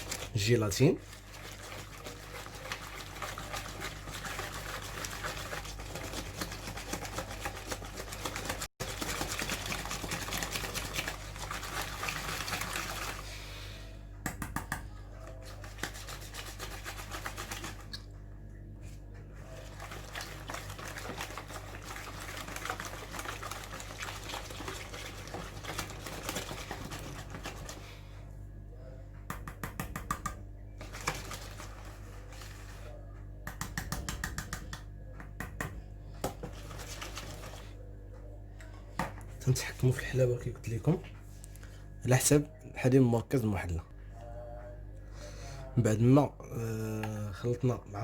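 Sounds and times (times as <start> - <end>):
filling mixed in a bowl: 0.0 - 14.1, 14.8 - 48.0.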